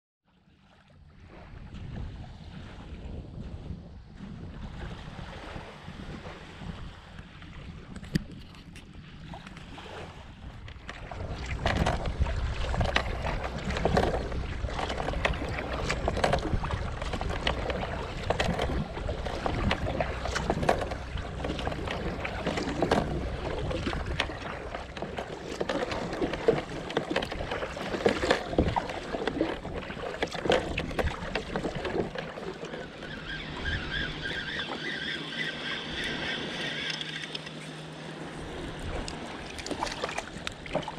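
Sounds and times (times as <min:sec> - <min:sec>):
water splashing against kayak hull: 0:00.4 - 0:40.9
wind on microphone: 0:01.1 - 0:40.9.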